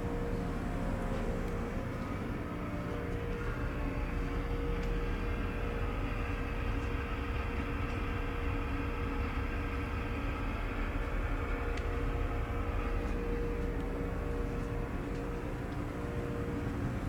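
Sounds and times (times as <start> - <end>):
faint steady hum: 0.0 - 17.0
ferry engines droning: 0.0 - 17.0.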